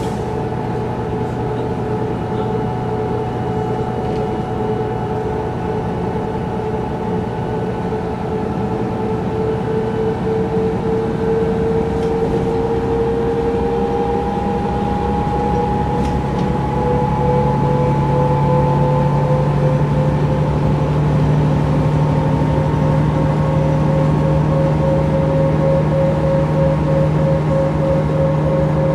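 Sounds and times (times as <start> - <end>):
bus engine whine: 0.0 - 28.9.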